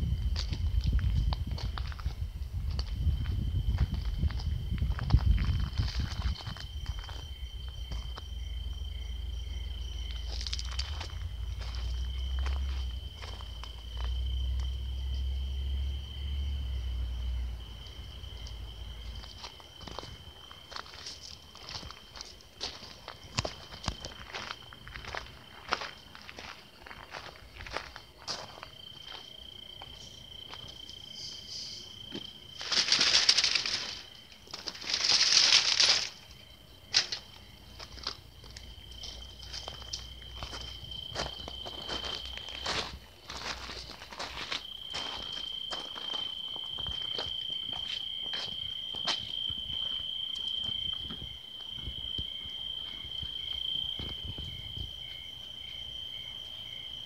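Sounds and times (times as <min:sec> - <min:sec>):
crickets trilling: 0:00.0 - 0:57.0
footsteps outdoors: 0:00.0 - 0:57.0
low pulsing insect call: 0:00.0 - 0:57.0.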